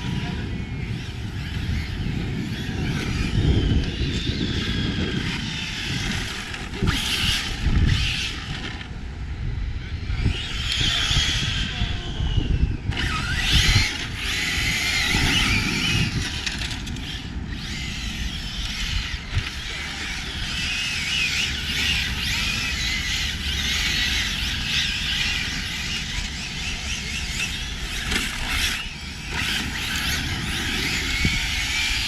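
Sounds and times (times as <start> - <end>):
electric motors whining: 0.0 - 32.0.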